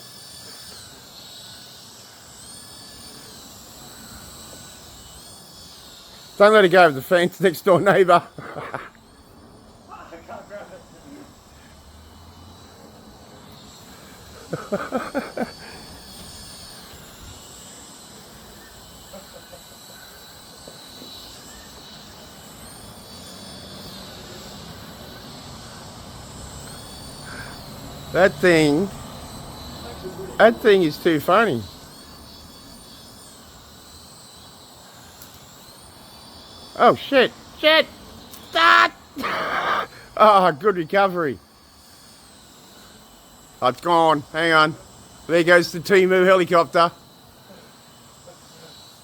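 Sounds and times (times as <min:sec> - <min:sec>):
toy helicopter rotors whining: 0:00.0 - 0:49.0.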